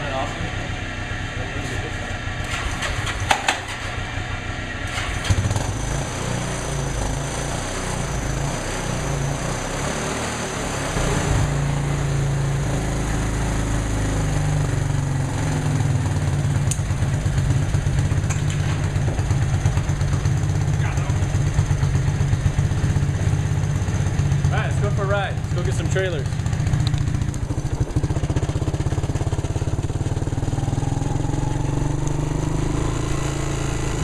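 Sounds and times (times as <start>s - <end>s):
small gasoline engine running: 2.2s - 34.0s.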